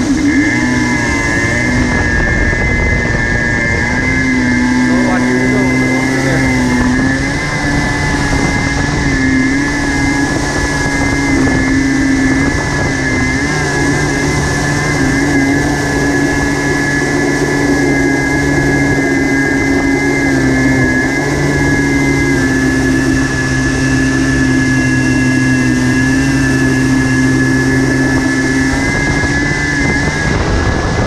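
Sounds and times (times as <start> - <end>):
jet ski engine running: 0.0 - 31.0.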